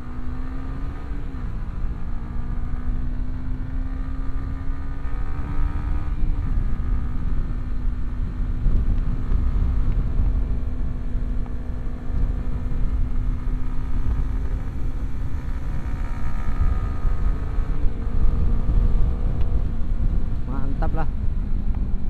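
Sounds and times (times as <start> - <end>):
motorcycle engine accelerating: 0.0 - 22.0
wind rumble: 0.0 - 22.0.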